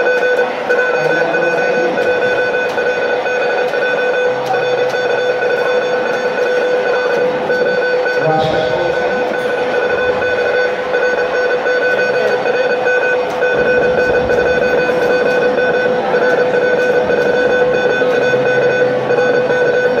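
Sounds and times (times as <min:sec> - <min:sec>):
morse code beeps: 0:00.0 - 0:20.0.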